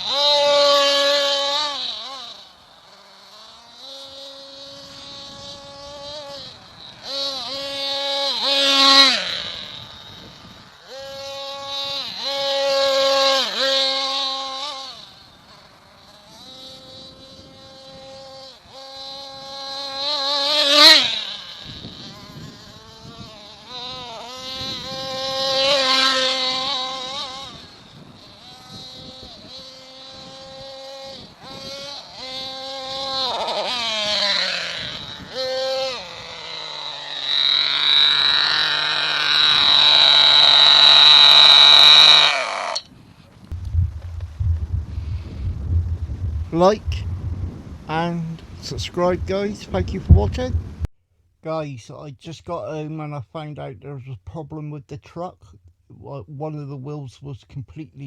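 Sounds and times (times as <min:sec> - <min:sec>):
small nitro engine revving: 0:00.0 - 0:50.8.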